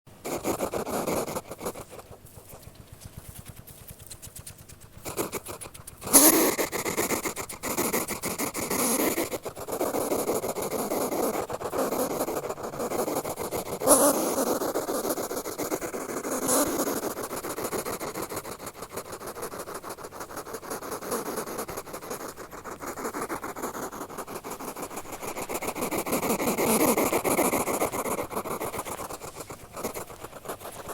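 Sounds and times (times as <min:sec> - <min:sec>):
hedgehog snuffling: 0:00.1 - 0:30.9.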